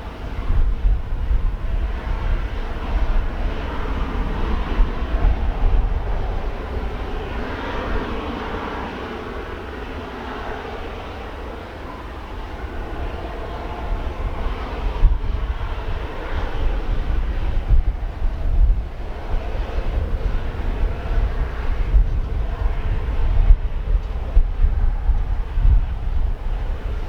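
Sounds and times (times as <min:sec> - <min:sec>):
jet airliner engine noise: 0:00.0 - 0:27.0
wind buffeting microphone: 0:00.0 - 0:27.0.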